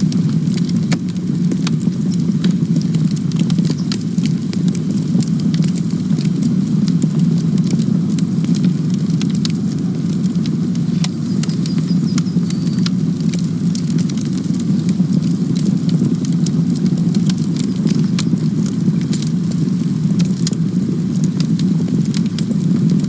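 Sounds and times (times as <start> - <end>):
low rumble of flames: 0.0 - 23.0
wood crackling and popping: 0.0 - 23.0.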